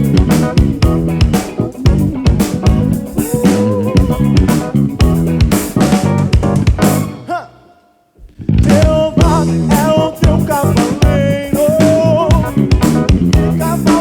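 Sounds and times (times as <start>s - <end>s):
drum kit beat: 0.0s - 7.3s, 8.3s - 14.0s
bass guitar: 0.0s - 7.4s, 8.2s - 14.0s
guitar: 0.0s - 14.0s.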